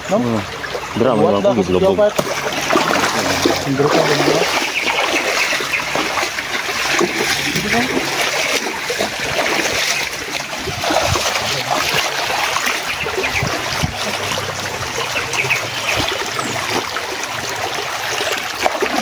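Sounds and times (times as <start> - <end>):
stream running over stones: 0.0 - 19.0
splashing of person wading: 2.1 - 19.0.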